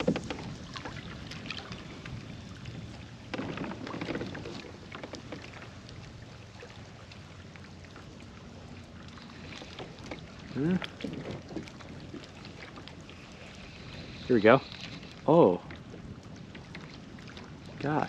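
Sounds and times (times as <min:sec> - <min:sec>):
water lapping against kayak hull: 0:00.0 - 0:18.0.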